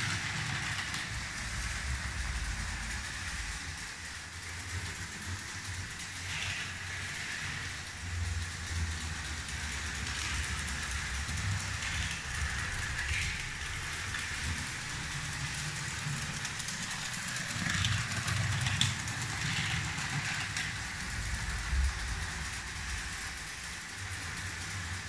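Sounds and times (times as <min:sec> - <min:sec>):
toy train whirring and rattling: 0:00.0 - 0:25.0.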